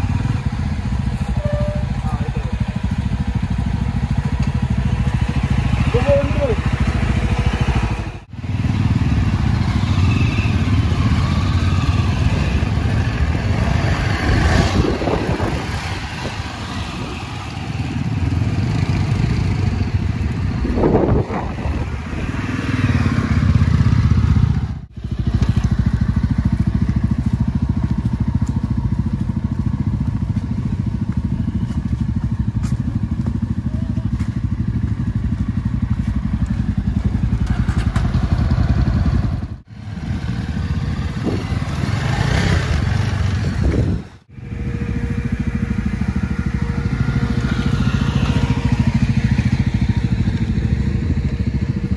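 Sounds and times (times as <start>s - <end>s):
motorcycle engine running under load: 0.0s - 51.9s.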